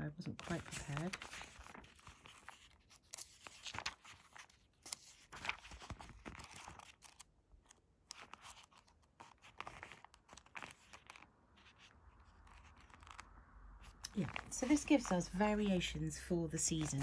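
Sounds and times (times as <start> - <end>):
book pages rustling: 0.2 - 17.0.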